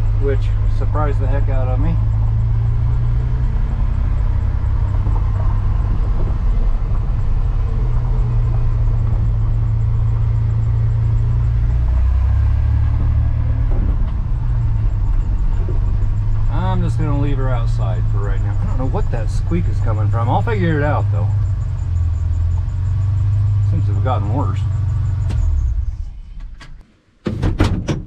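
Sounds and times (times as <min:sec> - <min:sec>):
truck engine running: 0:00.0 - 0:26.4.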